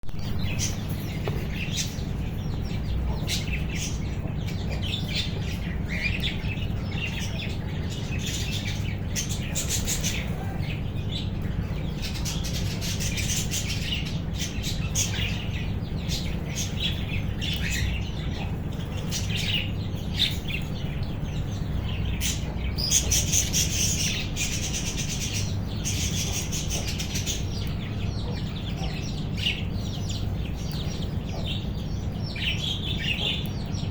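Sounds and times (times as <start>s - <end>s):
birds chirping and chattering: 0.0s - 33.9s
steady low hum: 0.0s - 33.9s.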